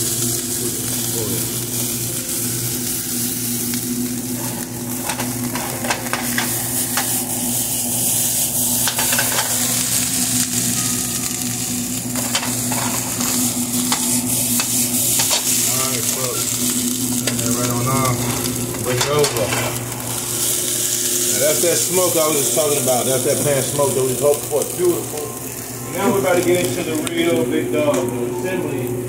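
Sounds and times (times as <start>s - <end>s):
steady low hum: 0.0s - 29.0s
steak sizzling in frying pan: 0.0s - 29.0s.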